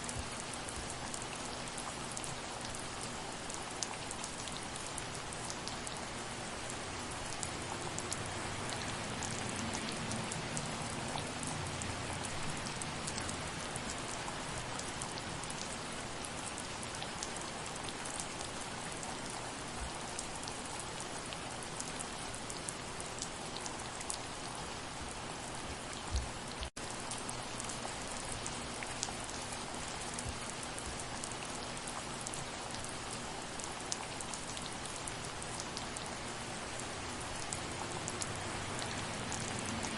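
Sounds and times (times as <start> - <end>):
raindrops ticking close by: 0.0 - 39.9
soft steady rain: 0.0 - 39.9.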